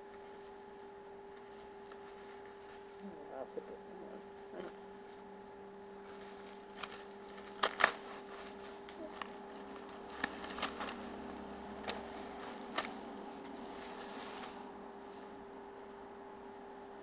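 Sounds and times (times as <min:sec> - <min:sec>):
steady low hum: 0:00.0 - 0:17.0
plastic cling wrap crinkling: 0:00.1 - 0:15.3.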